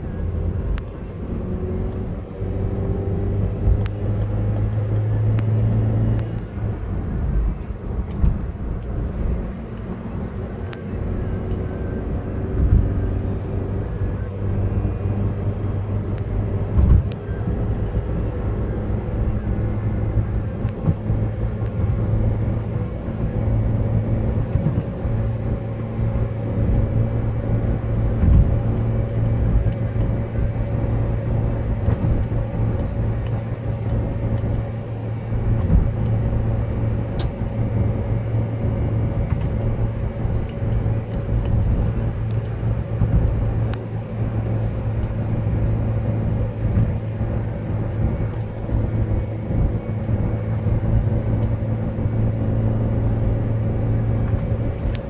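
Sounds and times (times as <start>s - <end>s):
car engine and tyre drone: 0.0s - 55.0s.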